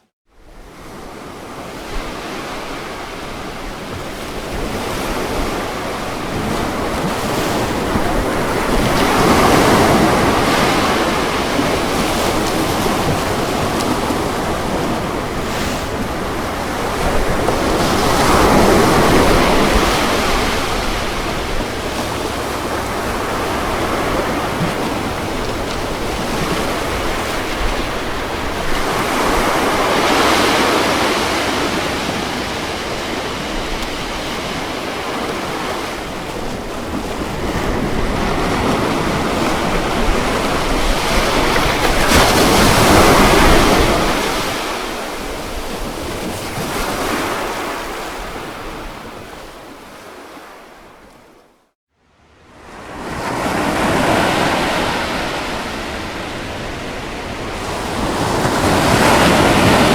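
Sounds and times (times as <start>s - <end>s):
ocean surf washing onto beach: 0.7s - 51.2s, 52.5s - 59.9s.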